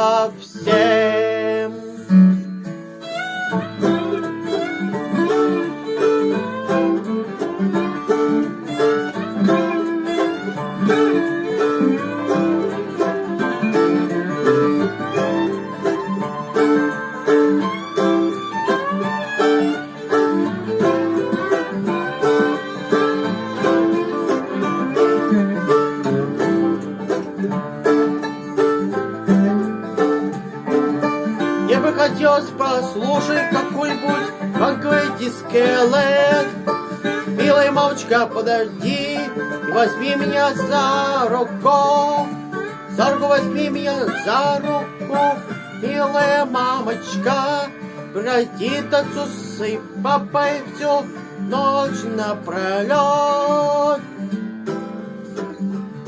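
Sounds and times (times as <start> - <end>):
banjo picking: 0.0 - 56.0
guitar picking: 0.0 - 56.0.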